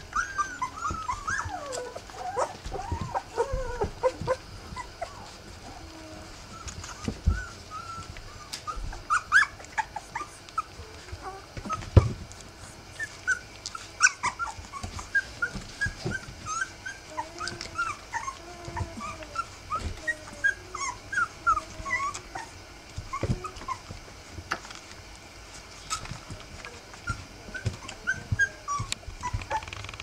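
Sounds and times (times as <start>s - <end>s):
puppies squeaking: 0.0s - 12.1s, 12.9s - 23.9s, 25.8s - 26.4s, 27.0s - 30.0s
puppies whining: 0.0s - 24.8s, 25.5s - 30.0s.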